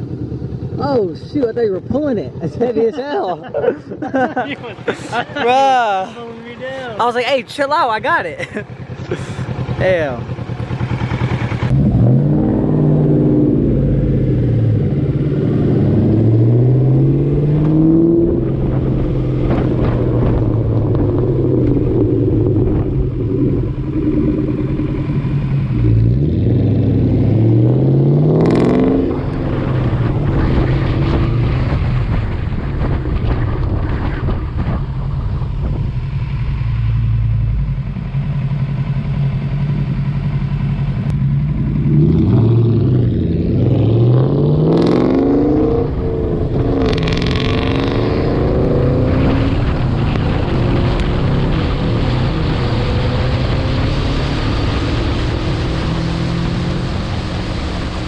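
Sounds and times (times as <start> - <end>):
motorcycle engine accelerating: 0.0 - 7.3, 8.0 - 58.0.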